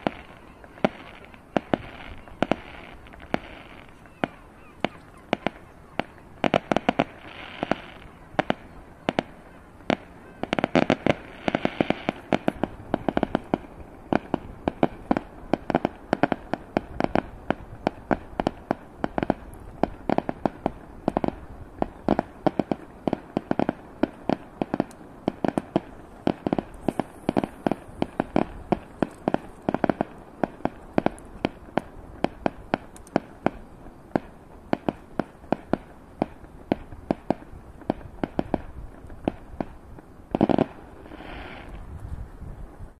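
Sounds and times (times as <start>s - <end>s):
fireworks bangs and pops: 0.0s - 42.3s.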